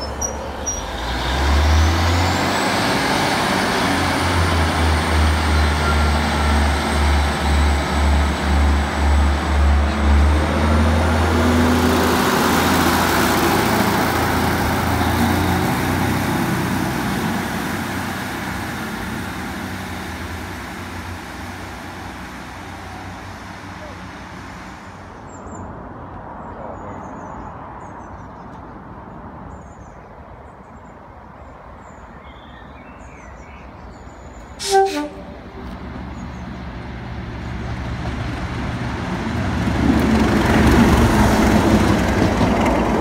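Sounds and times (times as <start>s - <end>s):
diesel train engine drone: 0.0s - 25.8s, 34.4s - 43.0s.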